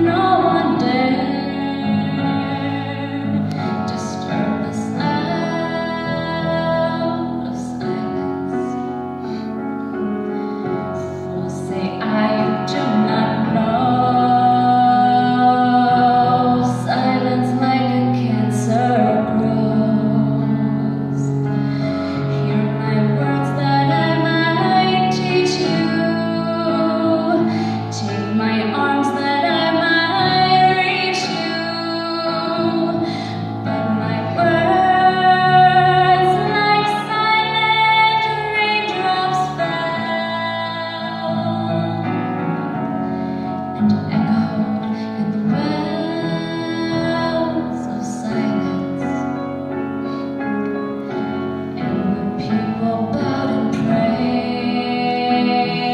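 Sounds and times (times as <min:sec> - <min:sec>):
woman singing slow song: 0:00.0 - 0:09.0, 0:10.9 - 0:42.6, 0:43.7 - 0:49.6, 0:51.8 - 0:55.9.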